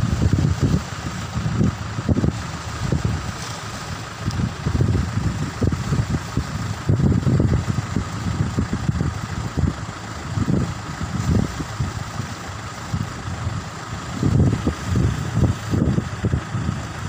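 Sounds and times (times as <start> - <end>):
steady mechanical hum: 0.0 - 17.0
wind buffeting microphone: 0.0 - 17.0.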